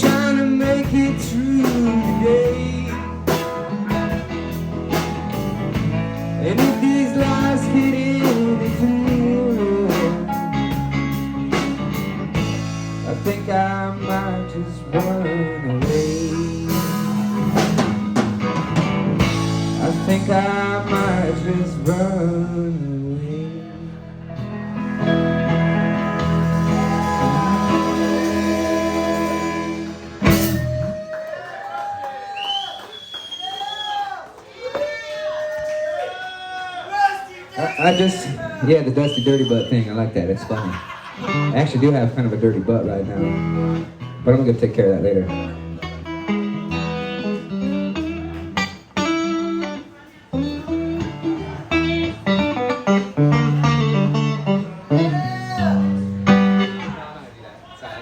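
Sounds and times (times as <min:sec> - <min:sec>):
solo guitar picking: 0:00.0 - 0:30.8, 0:41.2 - 0:57.1
country rock band playing: 0:00.0 - 0:31.2, 0:37.6 - 0:57.3.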